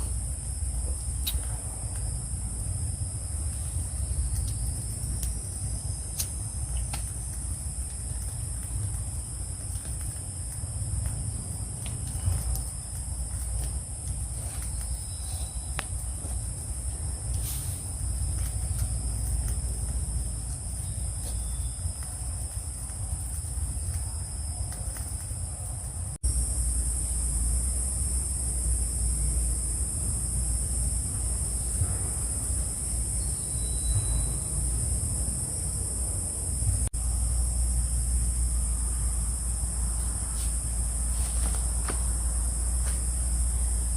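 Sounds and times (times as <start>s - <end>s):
crickets chirping: 0.0s - 43.9s
low steady rumble: 0.0s - 43.9s.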